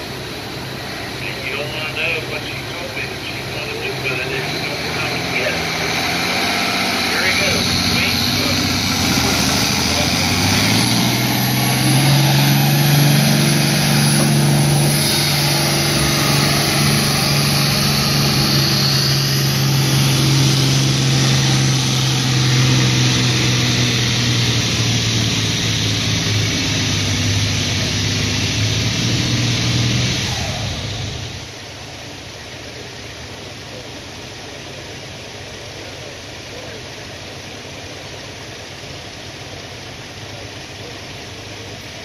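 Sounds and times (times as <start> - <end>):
tractor engine running hard: 0.0 - 42.0.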